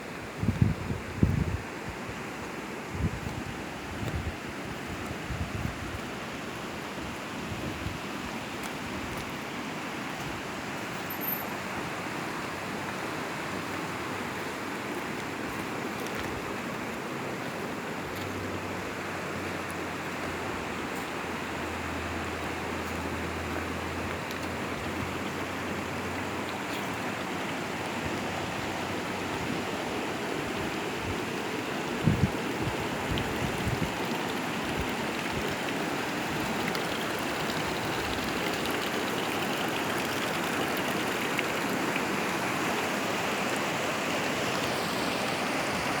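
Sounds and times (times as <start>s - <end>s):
fast-flowing stream rushing: 1.7s - 46.0s.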